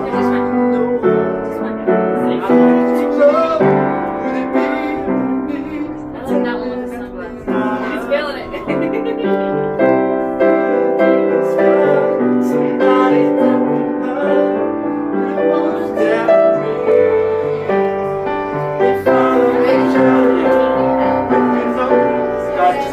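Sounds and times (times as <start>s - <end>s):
piano instrumental music: 0.0s - 22.9s.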